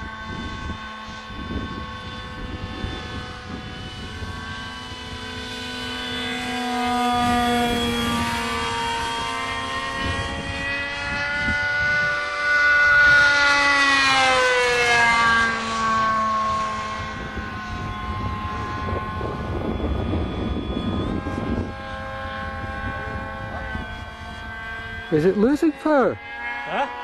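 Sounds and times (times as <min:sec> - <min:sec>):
electric motor and propeller whining: 0:00.0 - 0:27.0.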